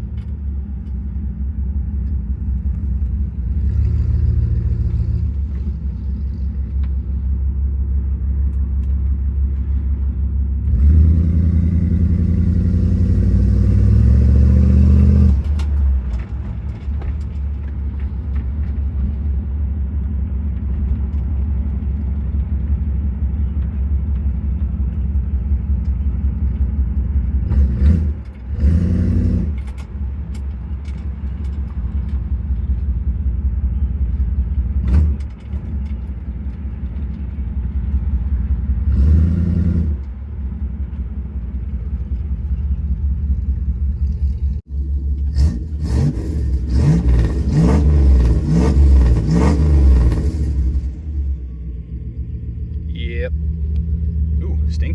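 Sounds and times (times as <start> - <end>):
car engine rumbling: 0.0 - 54.9.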